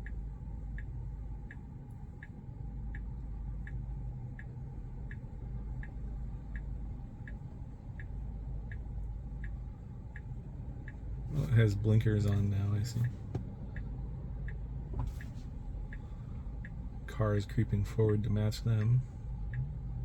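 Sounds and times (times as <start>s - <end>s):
low road and cabin rumble: 0.0s - 20.0s
turn signal ticking: 0.0s - 20.0s.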